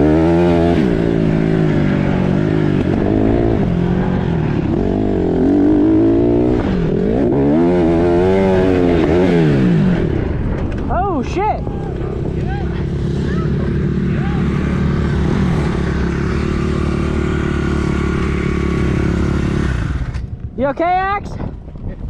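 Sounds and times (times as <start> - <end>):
dirt bike engine revving: 0.0 - 10.4, 11.2 - 20.3.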